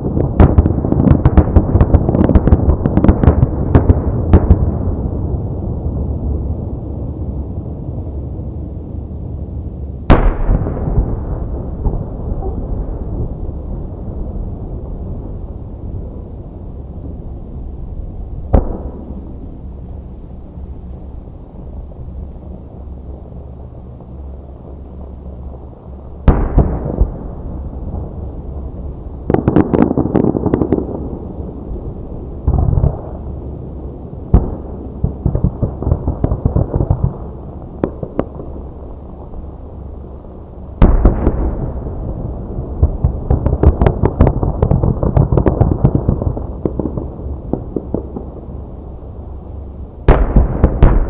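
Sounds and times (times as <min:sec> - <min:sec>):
fireworks crackling pops: 0:00.0 - 0:05.5, 0:10.1 - 0:51.0
fireworks booming: 0:00.0 - 0:51.0.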